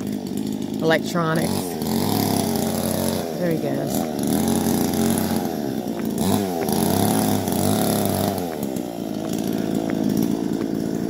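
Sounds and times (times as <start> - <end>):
chainsaw cutting bamboo: 0.0 - 11.0.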